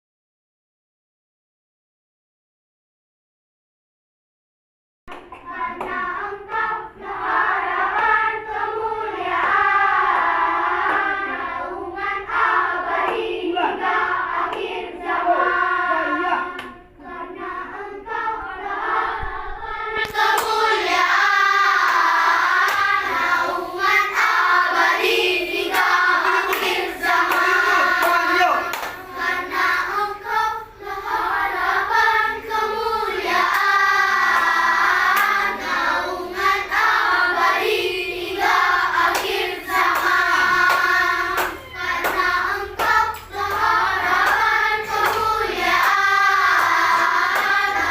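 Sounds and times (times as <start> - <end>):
children's choir singing: 5.1 - 47.9.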